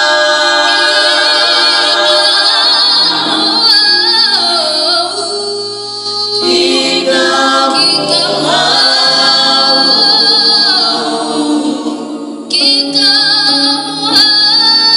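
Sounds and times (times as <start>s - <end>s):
a cappella choir singing: 0.0s - 14.9s.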